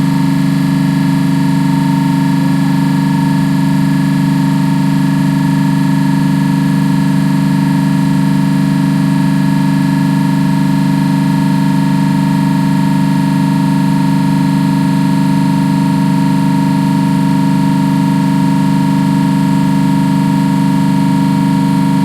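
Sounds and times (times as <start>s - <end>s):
compressor humming with whine: 0.0s - 22.0s.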